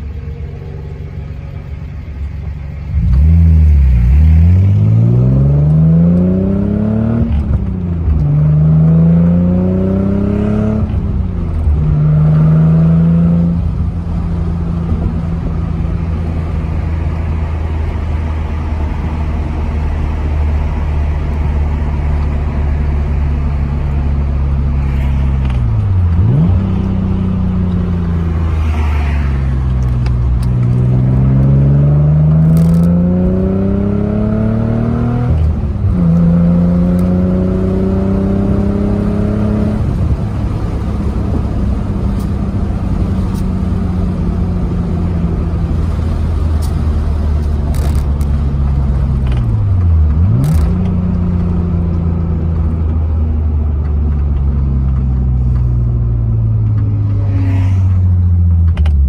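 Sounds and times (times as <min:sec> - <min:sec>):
car engine revving while driving: 0:02.8 - 0:59.0.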